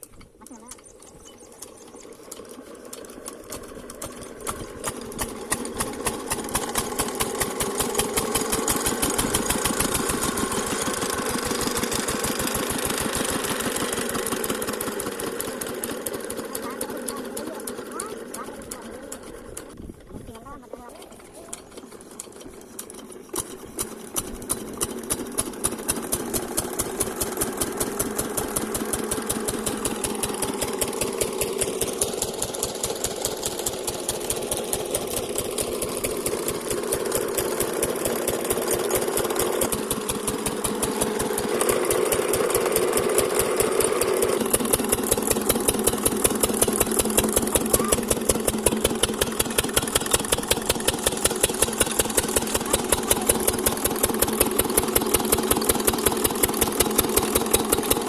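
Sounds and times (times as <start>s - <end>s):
diesel pump engine knocking: 1.4s - 58.0s.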